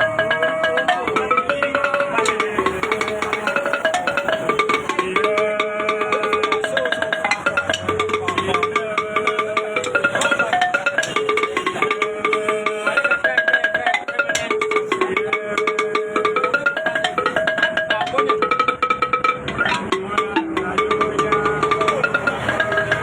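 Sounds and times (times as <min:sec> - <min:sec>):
fast plucked melody: 0:00.0 - 0:23.0
rapid percussion: 0:00.0 - 0:23.0.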